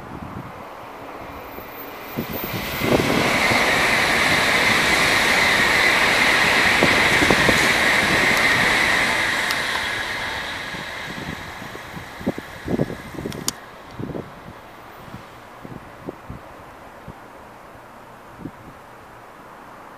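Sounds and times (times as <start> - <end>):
high-speed train passing: 0.0 - 19.9.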